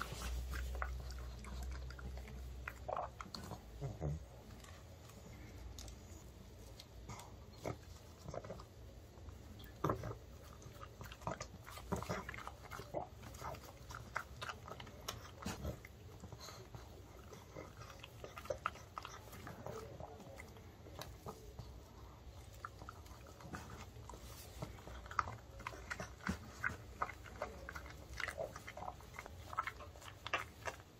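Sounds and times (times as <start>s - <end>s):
dog crunching and chewing: 0.0s - 30.9s
dog licking and smacking: 0.0s - 30.9s.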